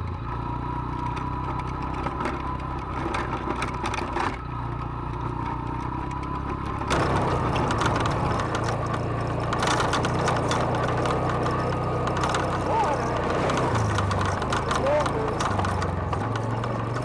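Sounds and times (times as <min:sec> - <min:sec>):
atv engine running: 0:00.0 - 0:17.0
rattling and gravel crunching: 0:00.0 - 0:17.0.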